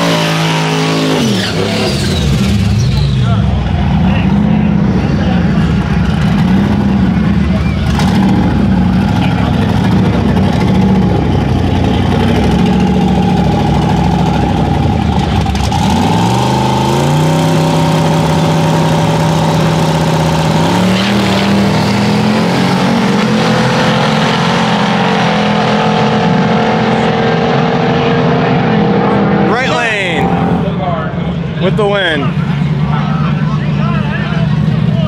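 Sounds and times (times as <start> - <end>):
truck engines revving loud: 0.0 - 35.0.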